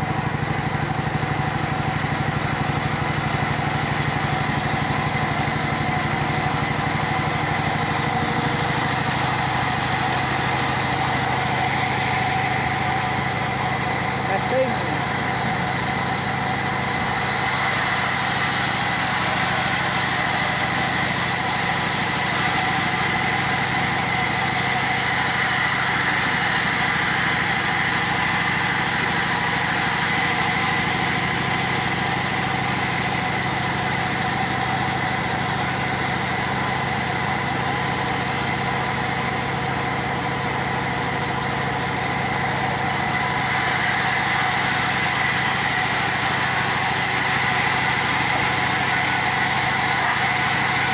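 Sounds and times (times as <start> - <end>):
machine whining and humming: 0.0 - 50.9.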